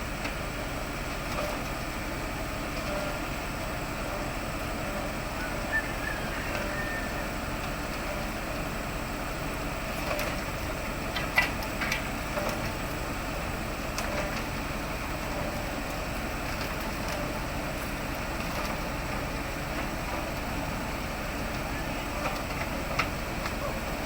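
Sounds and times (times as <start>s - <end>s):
heavy diesel machinery running: 0.0s - 24.0s.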